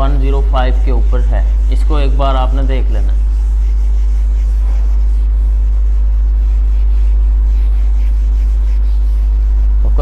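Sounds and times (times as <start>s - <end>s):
duster rubbing on whiteboard: 0.0s - 10.0s
loud steady low hum: 0.0s - 10.0s.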